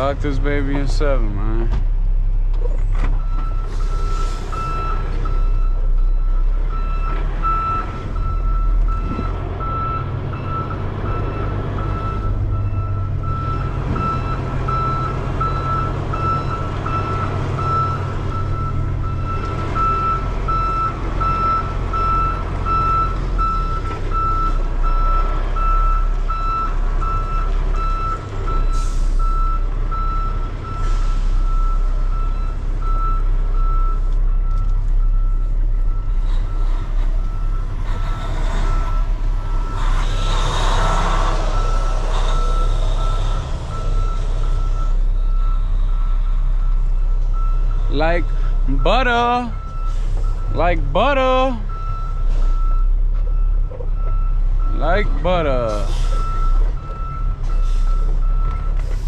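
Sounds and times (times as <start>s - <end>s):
diesel engine running: 0.0s - 59.0s
backup alarm beeping: 3.2s - 37.7s, 41.6s - 59.0s.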